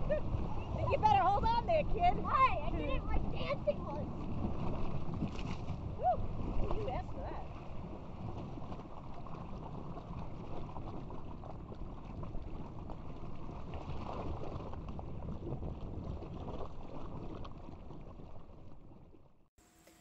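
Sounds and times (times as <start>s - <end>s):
wind buffeting microphone: 0.0s - 17.4s
water rushing and splashing: 0.0s - 18.8s.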